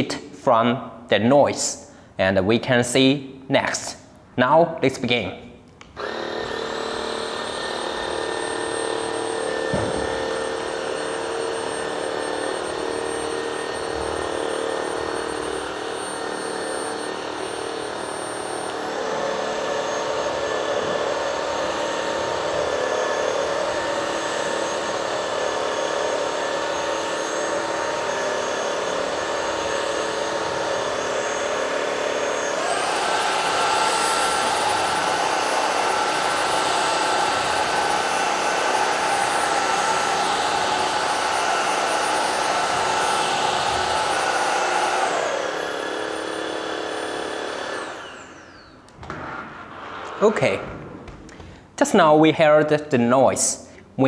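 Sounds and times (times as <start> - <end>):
vacuum cleaner motor whining: 5.8 - 49.1.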